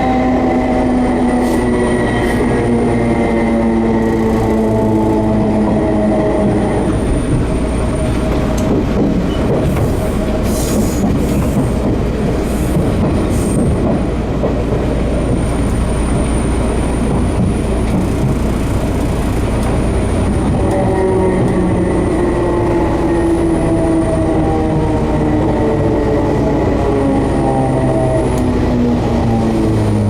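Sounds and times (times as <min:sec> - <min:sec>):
train motor whine: 0:00.0 - 0:11.7, 0:16.7 - 0:30.0
train wheels rumbling on rails: 0:00.0 - 0:30.0.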